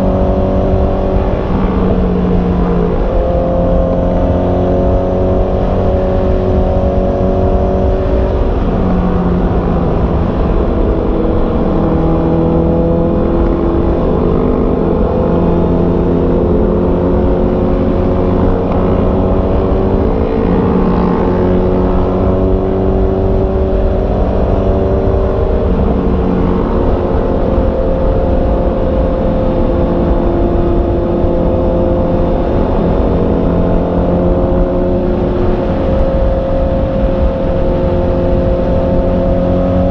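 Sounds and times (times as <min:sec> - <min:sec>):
motorcycle engine running: 0:00.0 - 0:39.9
wind rumbling on microphone: 0:00.0 - 0:39.9.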